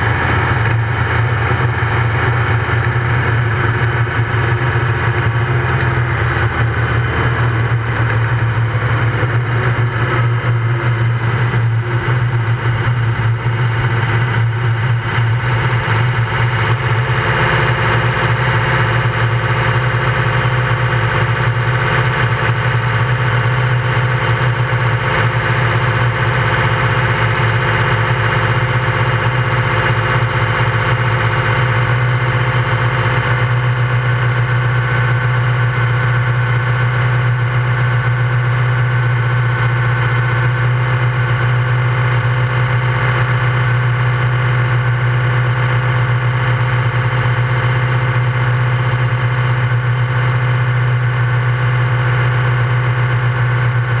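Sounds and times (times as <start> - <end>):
race car engine idling: 0.0 - 54.0.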